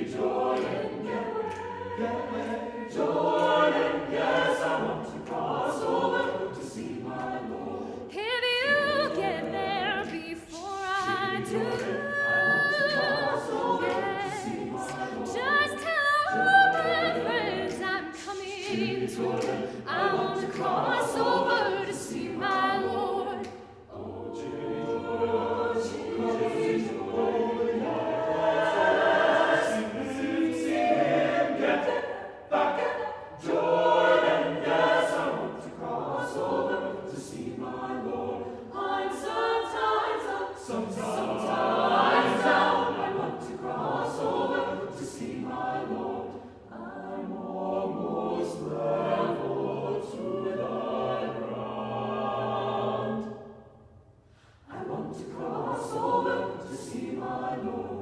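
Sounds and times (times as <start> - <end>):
choir singing a spiritual: 0.0 - 58.0.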